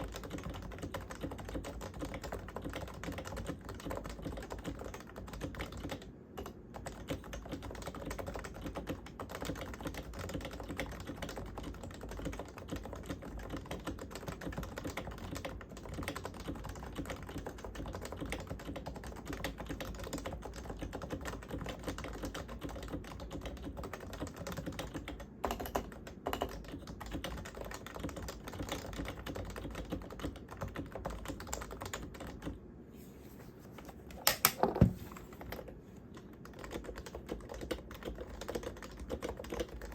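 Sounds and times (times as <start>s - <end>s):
fast typing on keyboard: 0.0s - 32.6s, 35.2s - 39.9s.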